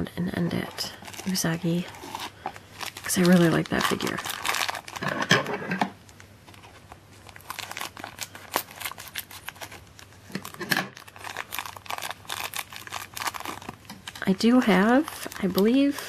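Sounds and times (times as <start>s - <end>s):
plastic bag crinkling: 0.6s - 16.0s.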